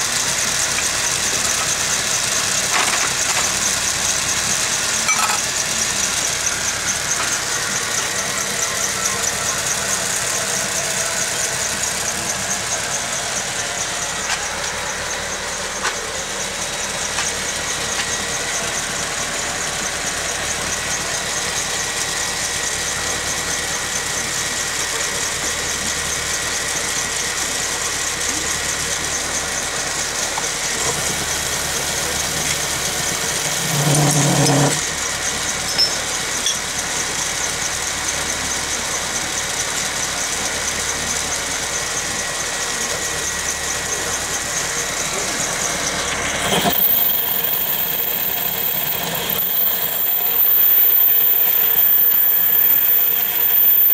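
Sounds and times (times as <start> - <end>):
lathe running with high whine: 0.0 - 53.9.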